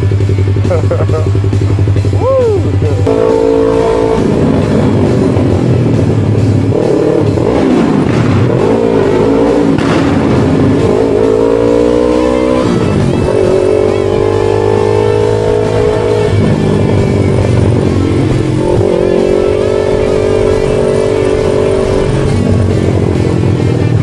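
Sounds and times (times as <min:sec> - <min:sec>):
motorcycle engine shifting gears: 0:00.0 - 0:24.0.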